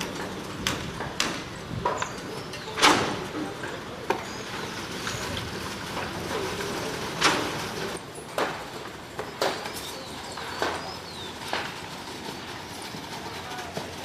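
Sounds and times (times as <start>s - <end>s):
construction knocks and bangs: 0.0s - 14.0s.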